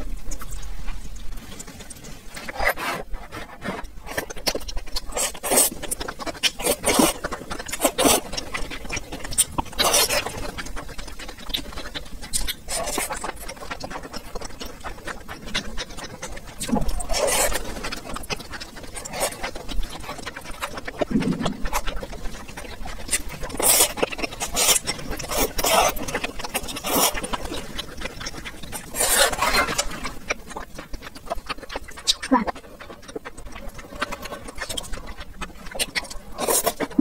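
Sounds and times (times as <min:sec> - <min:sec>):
wet chewing: 0:00.0 - 0:37.0
slurping noodles: 0:02.3 - 0:32.2, 0:32.8 - 0:37.0
mouth clicks and lip smacks: 0:04.0 - 0:37.0.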